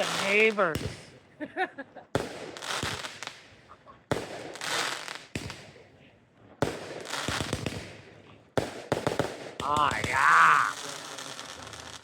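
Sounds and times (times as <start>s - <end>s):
fireworks banging and crackling: 0.0s - 1.2s, 2.1s - 5.9s, 6.6s - 12.0s.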